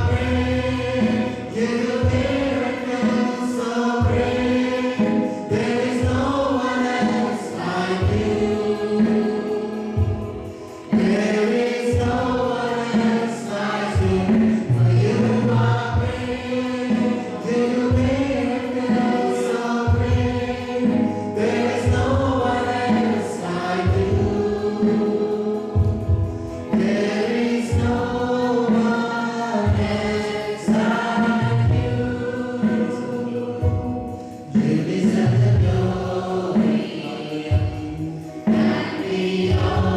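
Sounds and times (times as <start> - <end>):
group singing gospel song: 0.0 - 39.9
instrumental accompaniment: 0.0 - 39.9.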